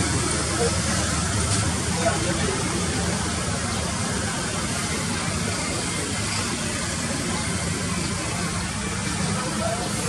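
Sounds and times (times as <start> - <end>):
jet engines idling: 0.0 - 10.0.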